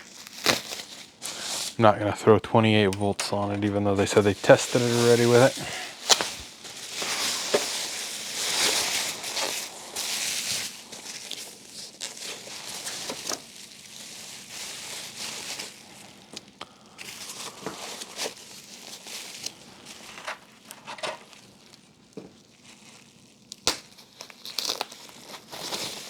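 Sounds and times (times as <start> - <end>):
packaging rustling and crinkling: 0.0 - 26.0.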